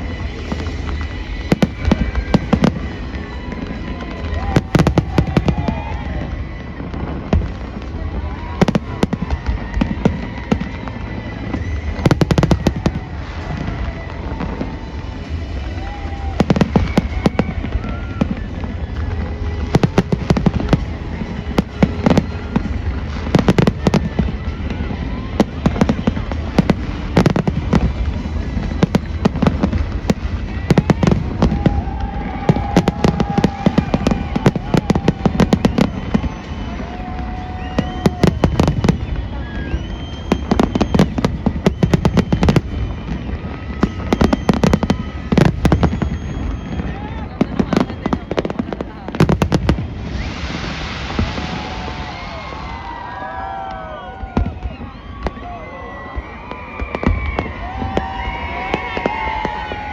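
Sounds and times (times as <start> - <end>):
continuous low rumble: 0.0 - 55.9
fireworks bangs and crackling: 0.0 - 59.9.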